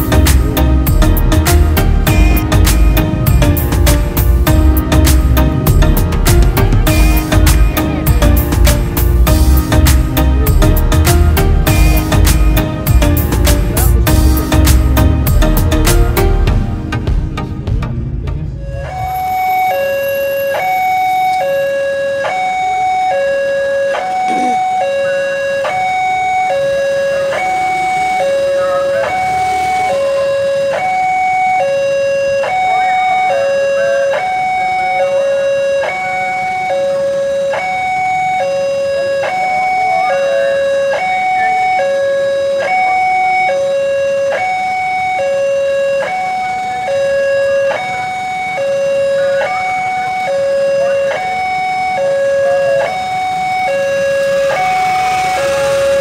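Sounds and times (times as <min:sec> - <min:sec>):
level crossing two-tone alarm: 0:00.0 - 0:16.6, 0:18.6 - 0:56.0.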